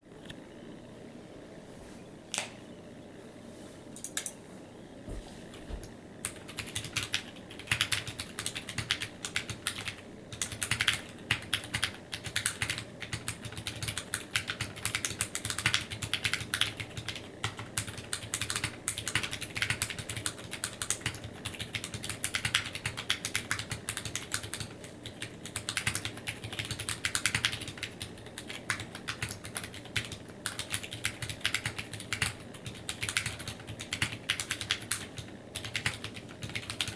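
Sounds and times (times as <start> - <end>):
mechanical keyboard typing: 6.2 - 36.9.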